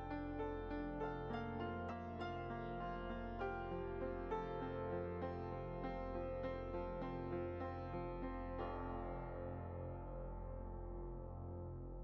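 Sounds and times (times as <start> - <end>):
gentle keyboard music: 0.0 - 12.0.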